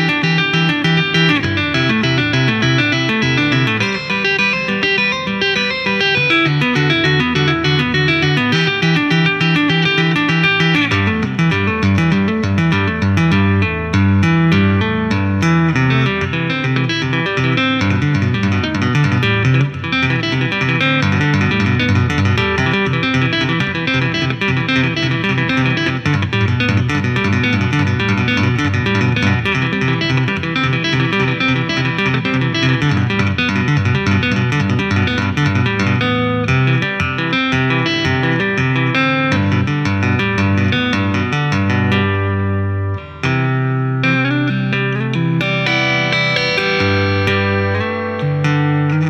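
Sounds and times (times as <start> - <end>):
electric guitar tapped notes: 0.0 - 49.0.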